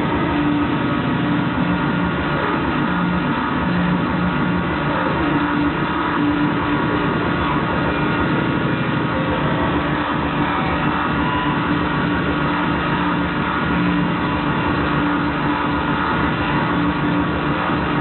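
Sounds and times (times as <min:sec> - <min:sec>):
industrial noise music: 0:00.0 - 0:18.0.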